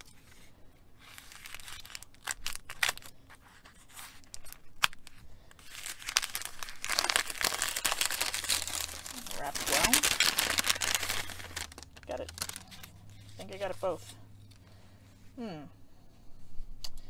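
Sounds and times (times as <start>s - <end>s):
paper bag crinkling: 0.0s - 14.1s.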